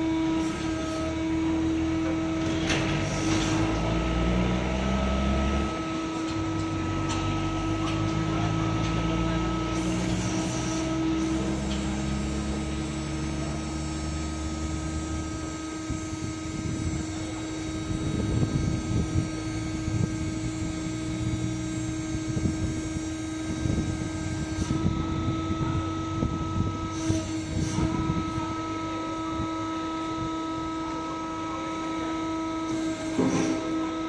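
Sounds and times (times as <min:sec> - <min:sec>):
hydraulic scraper machine hum: 0:00.0 - 0:34.0.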